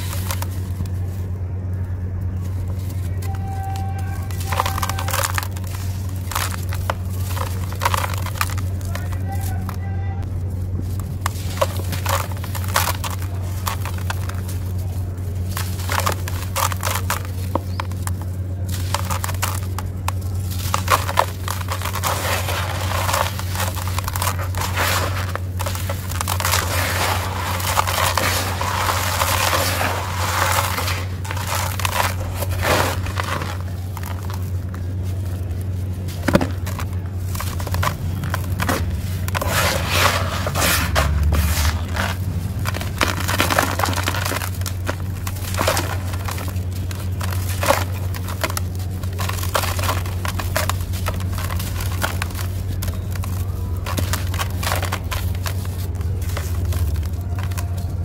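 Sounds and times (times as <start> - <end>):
sand crunching by hand: 0.0 - 1.3, 2.3 - 58.0
steady low hum: 0.0 - 58.0.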